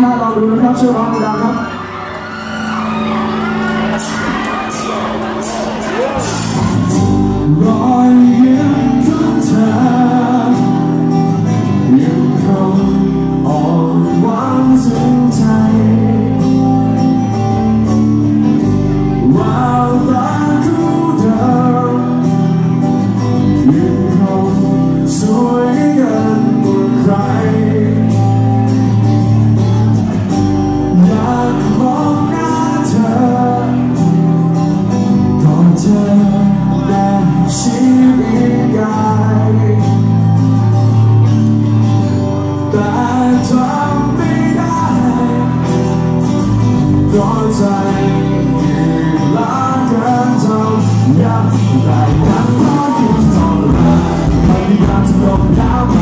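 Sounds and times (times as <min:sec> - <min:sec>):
live band with singing: 0:00.0 - 0:56.0.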